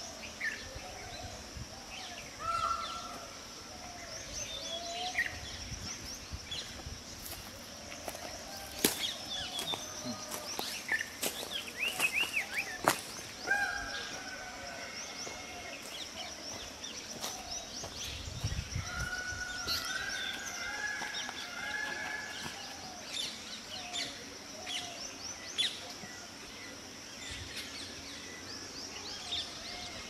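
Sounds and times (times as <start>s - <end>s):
birds chirping: 0.0s - 30.0s
steady background hiss: 0.0s - 30.0s.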